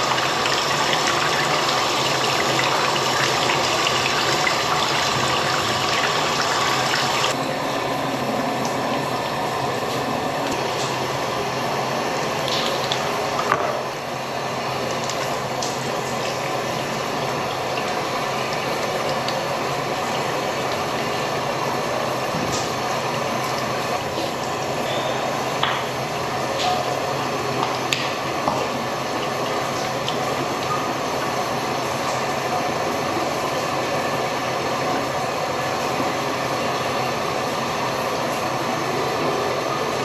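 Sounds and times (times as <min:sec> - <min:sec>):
running water: 0:00.0 - 0:40.0.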